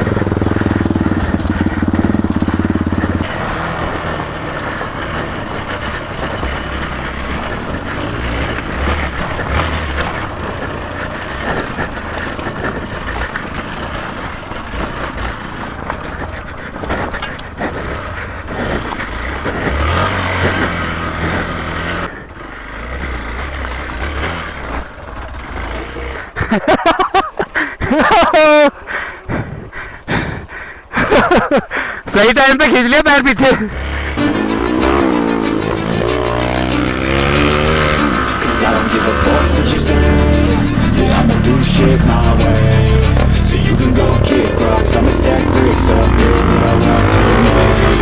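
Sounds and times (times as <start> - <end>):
motorcycle engine revving: 0.0 - 27.0, 33.5 - 48.0.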